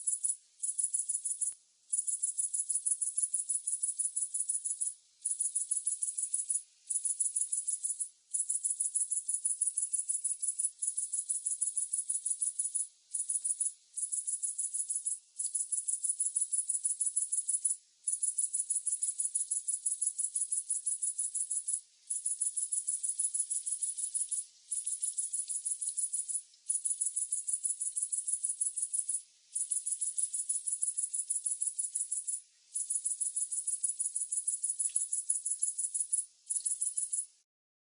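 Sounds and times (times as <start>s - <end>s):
cricket trilling: 0.0s - 37.3s.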